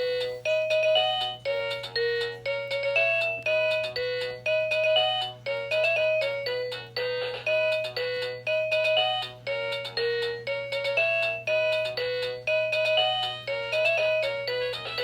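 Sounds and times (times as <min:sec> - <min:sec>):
toy beeping electronic melody: 0:00.0 - 0:15.0.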